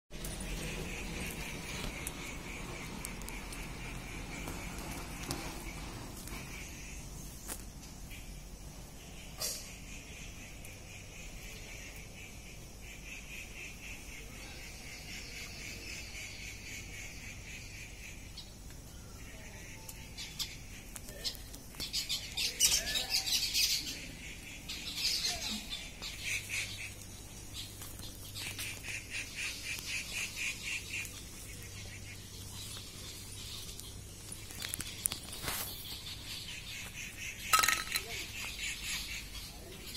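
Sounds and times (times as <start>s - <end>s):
birds trilling: 0.2s - 39.9s.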